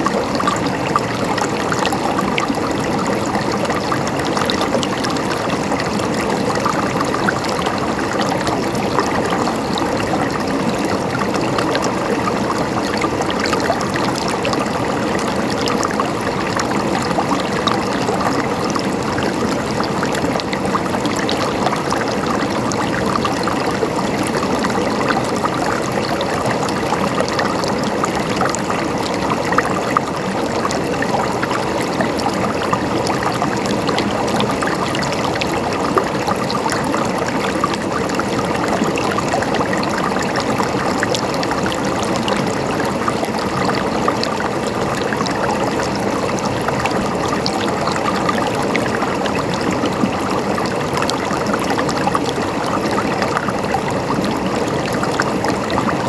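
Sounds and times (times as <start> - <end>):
stream flowing and gurgling: 0.0 - 56.0.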